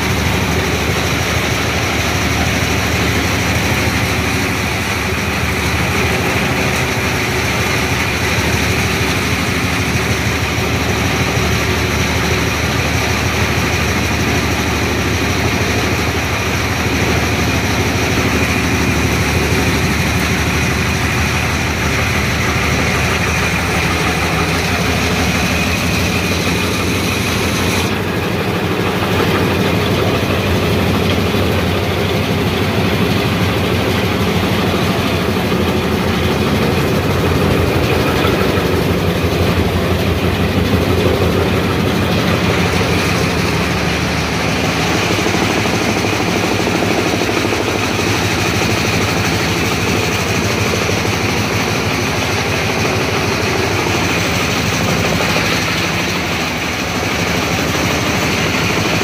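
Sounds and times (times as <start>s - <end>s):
chaff cutter chopping fodder: 0.0s - 59.0s.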